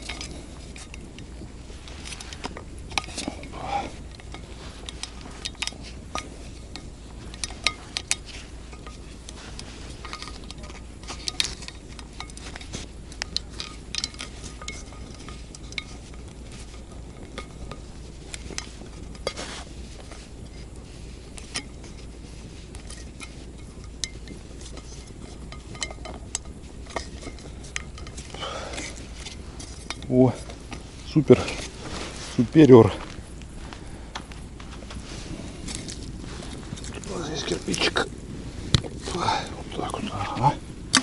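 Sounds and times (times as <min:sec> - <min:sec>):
metallic clinks and scrapes: 0:00.0 - 0:41.0.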